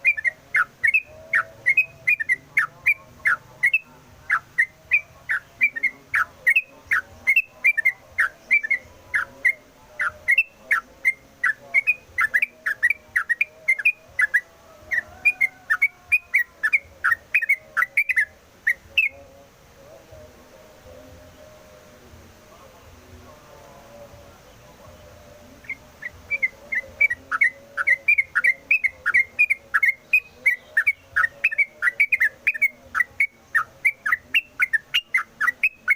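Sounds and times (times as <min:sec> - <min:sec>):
bird singing whistled notes: 0:00.0 - 0:19.3, 0:24.4 - 0:35.9.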